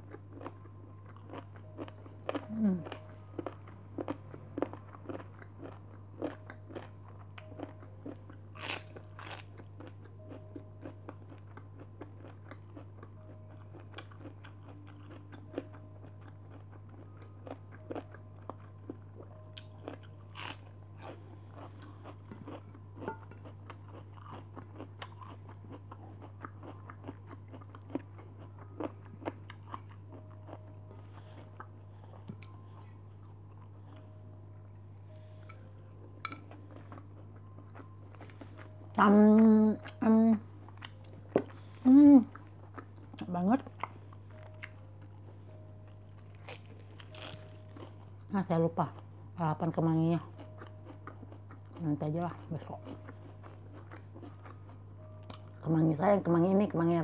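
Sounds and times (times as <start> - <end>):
person chewing raw cabbage: 0.0 - 38.8, 40.6 - 48.3, 50.3 - 55.6
steady low hum: 0.0 - 57.0.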